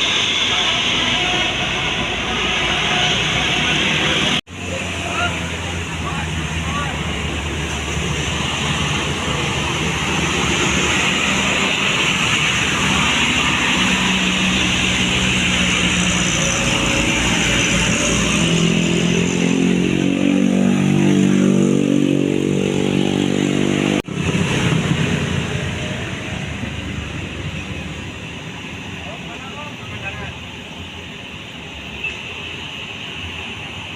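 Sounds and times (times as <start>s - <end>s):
bus engine accelerating: 0.0s - 33.9s.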